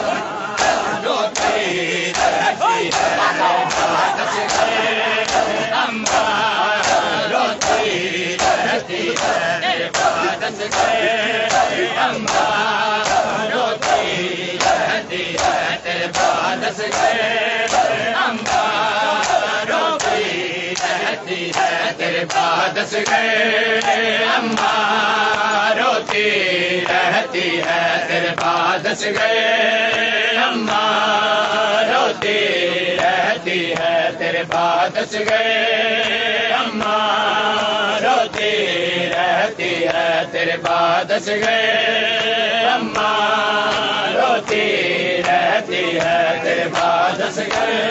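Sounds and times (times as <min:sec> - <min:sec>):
men chanting together: 0:00.0 - 0:47.9.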